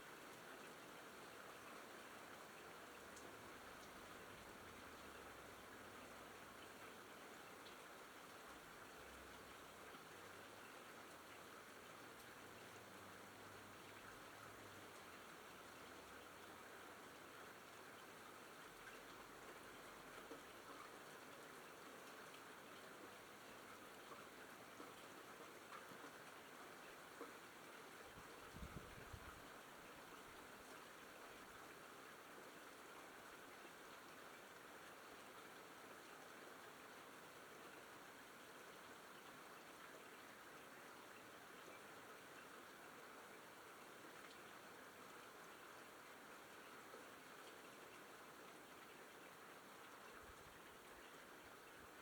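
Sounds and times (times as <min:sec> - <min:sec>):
faint steady rain: 0:00.0 - 0:52.0.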